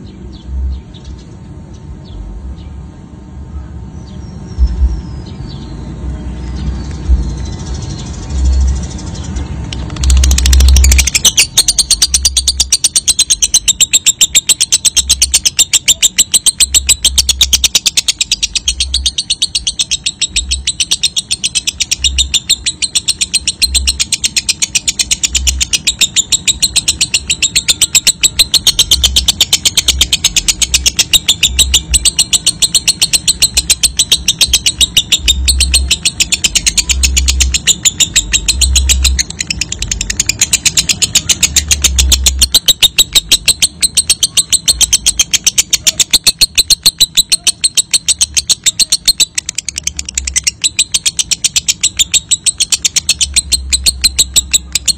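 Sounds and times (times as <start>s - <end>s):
lovebird fast high-pitched chatter: 7.8s - 54.9s.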